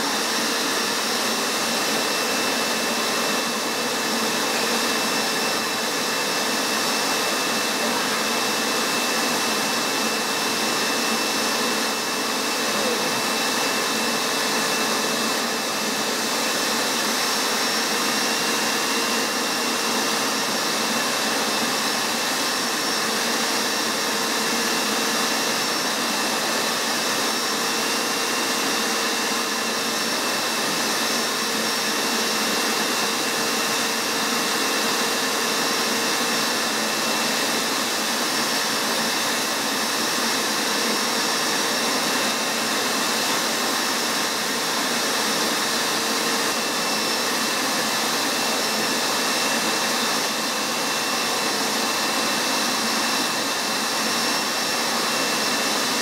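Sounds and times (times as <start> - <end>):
carpet extractor running: 0.0 - 56.0.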